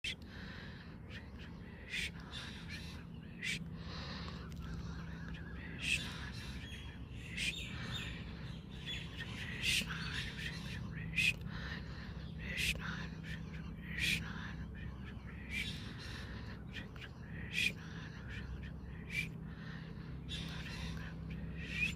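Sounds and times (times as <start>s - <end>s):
birds calling sharply: 0.0s - 21.9s
steady low hum: 0.0s - 21.9s.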